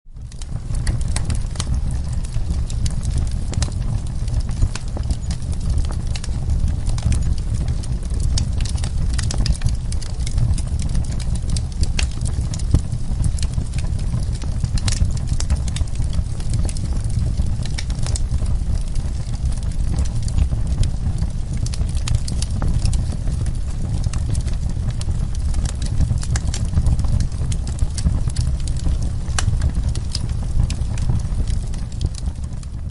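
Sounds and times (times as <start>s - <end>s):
campfire flames rushing: 0.1s - 32.9s
wood crackling and popping: 0.1s - 32.9s.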